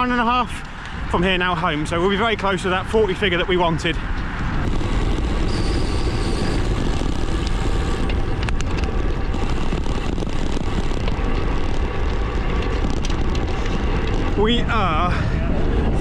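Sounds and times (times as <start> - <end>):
bike tyres rolling on road: 0.0 - 16.0
wind rushing over microphone: 0.0 - 16.0.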